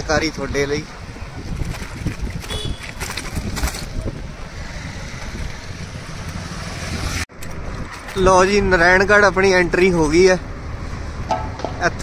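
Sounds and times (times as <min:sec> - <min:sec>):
wind buffeting microphone: 0:00.0 - 0:09.6
road traffic rumble: 0:00.0 - 0:12.0.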